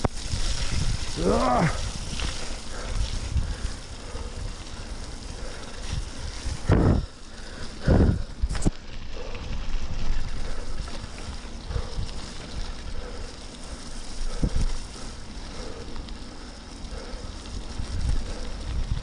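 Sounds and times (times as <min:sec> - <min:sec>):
wind buffeting microphone: 0:00.0 - 0:16.0, 0:16.9 - 0:19.0
bicycle tyres on wet gravel: 0:00.0 - 0:19.0.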